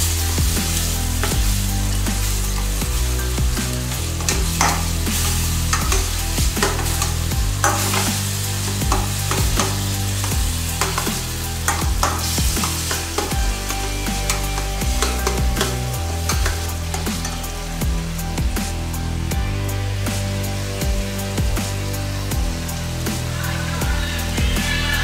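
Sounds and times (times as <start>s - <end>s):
onions sizzling: 0.0s - 25.0s.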